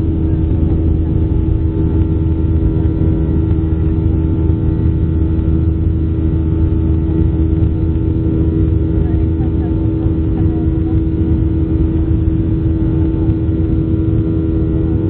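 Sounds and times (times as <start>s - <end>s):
jet engines humming: 0.0s - 15.0s.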